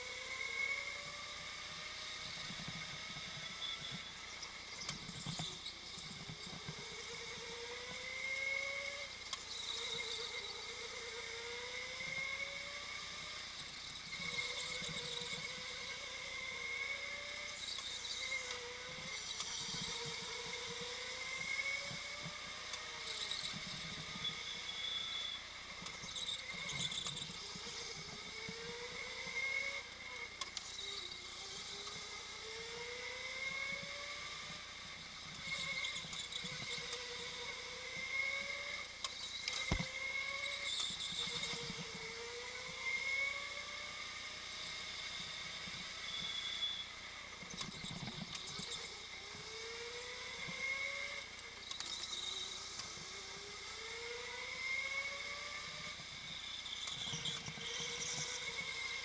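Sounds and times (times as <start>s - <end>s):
go-kart motor whine: 0.0s - 59.0s.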